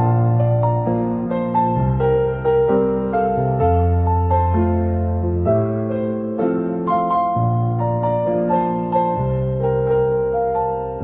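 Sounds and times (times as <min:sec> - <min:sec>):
gentle solo piano: 0:00.0 - 0:11.0.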